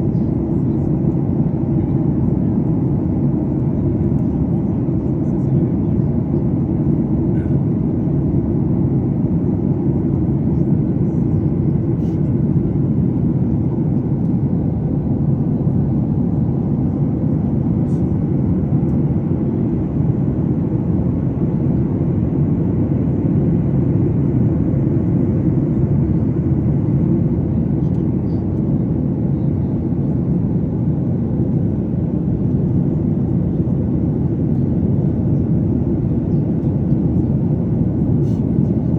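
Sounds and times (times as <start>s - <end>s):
airliner engine and airflow drone: 0.0s - 38.9s.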